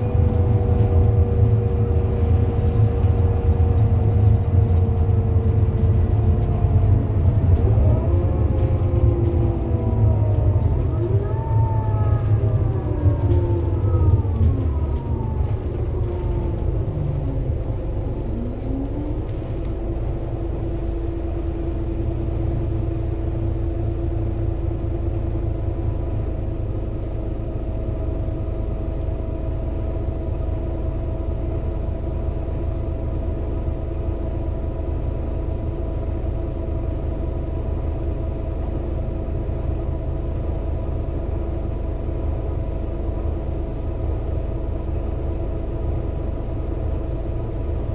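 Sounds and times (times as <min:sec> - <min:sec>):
bus diesel engine: 0:00.0 - 0:47.9.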